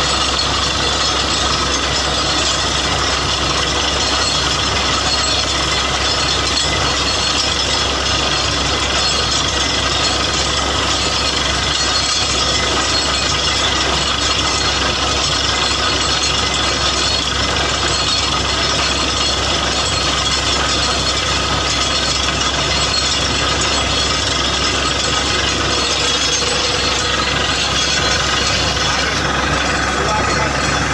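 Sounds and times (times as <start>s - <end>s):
drilling rig running: 0.0s - 30.9s.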